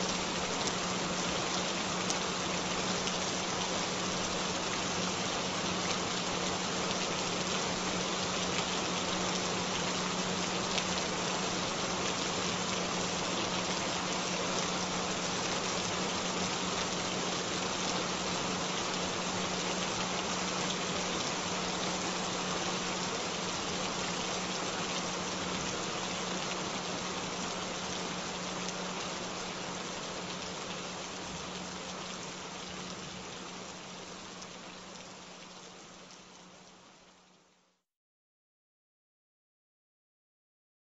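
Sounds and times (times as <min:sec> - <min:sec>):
raindrops: 0:00.0 - 0:37.8.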